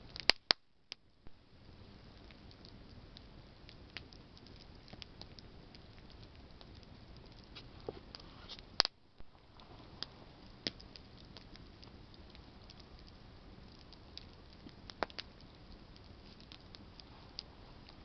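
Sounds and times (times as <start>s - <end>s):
campfire crackling and popping: 0.0s - 18.0s
hiss of flame: 1.5s - 18.0s.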